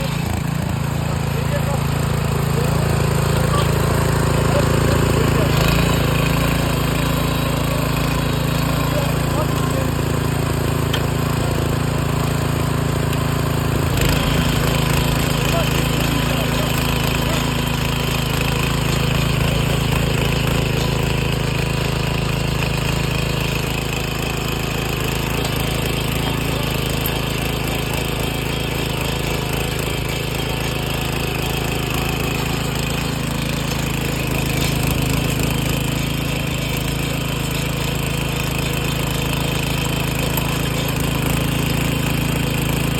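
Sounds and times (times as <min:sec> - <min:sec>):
rotary tiller engine running: 0:00.0 - 0:42.9.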